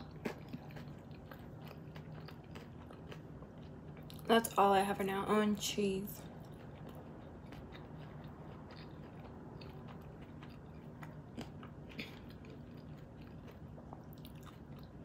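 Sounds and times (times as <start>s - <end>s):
person chewing soft food: 0.0s - 4.3s, 6.2s - 15.0s.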